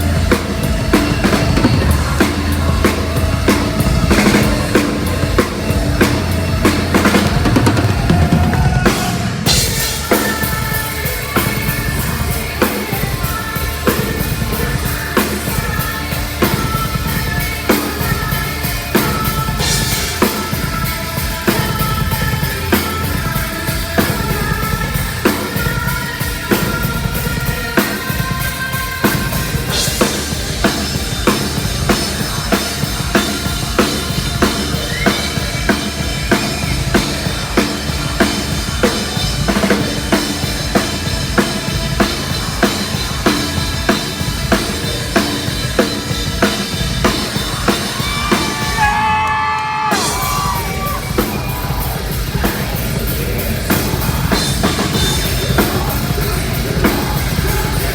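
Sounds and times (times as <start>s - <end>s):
drum kit beat: 0.0s - 57.9s
heavy metal band playing: 0.0s - 57.9s.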